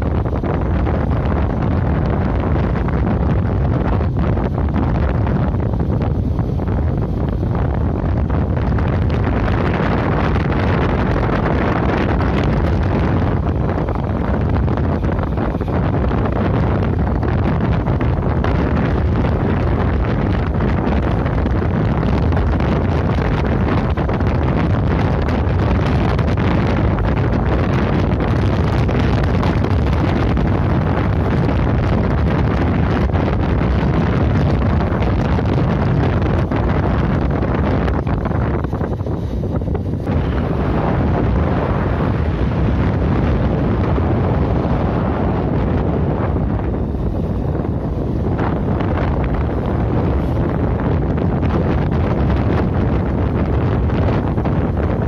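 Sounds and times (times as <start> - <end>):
road noise: 0.0 - 55.0
wind rushing on microphone: 0.0 - 55.0.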